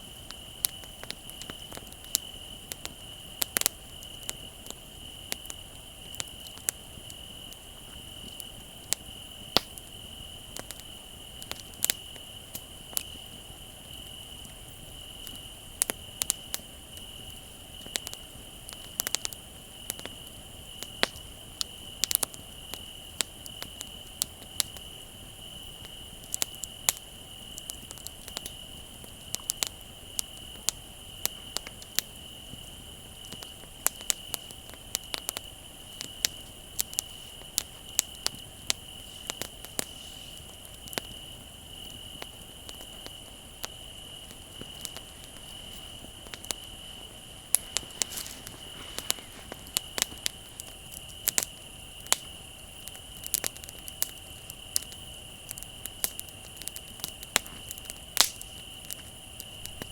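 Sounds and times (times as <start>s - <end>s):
campfire crackling and popping: 0.0s - 59.9s
crickets trilling: 0.0s - 59.9s.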